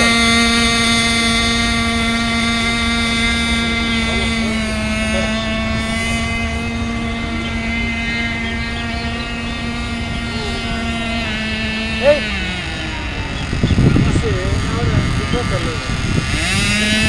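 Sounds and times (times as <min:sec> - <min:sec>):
high-pitched boat engine whine: 0:00.0 - 0:17.0.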